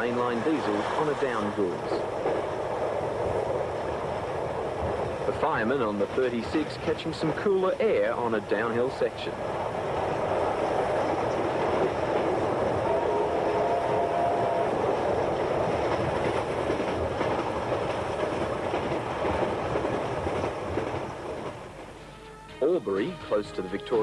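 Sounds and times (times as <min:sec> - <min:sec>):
wheels clattering over rails: 0:00.0 - 0:22.0
train rumbling: 0:00.0 - 0:24.0.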